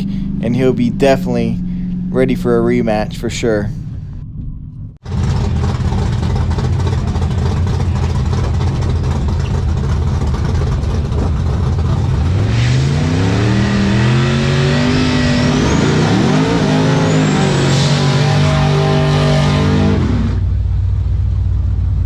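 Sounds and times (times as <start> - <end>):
truck engine revving: 0.0 - 20.8
high whine: 0.0 - 21.0.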